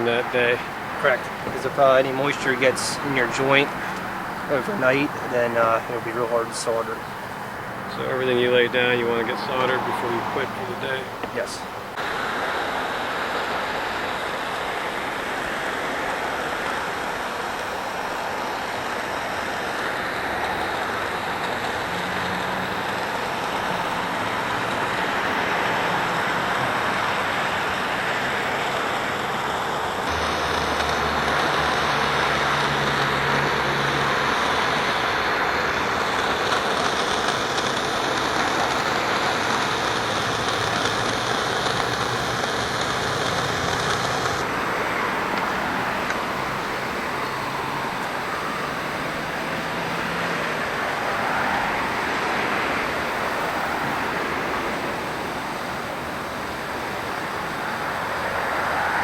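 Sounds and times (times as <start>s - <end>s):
torch hissing: 0.0s - 59.0s.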